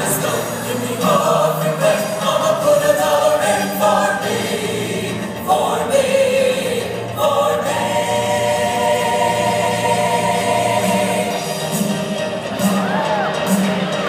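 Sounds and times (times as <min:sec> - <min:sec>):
choir singing gospel song: 0:00.0 - 0:14.0
musical accompaniment: 0:00.0 - 0:14.0.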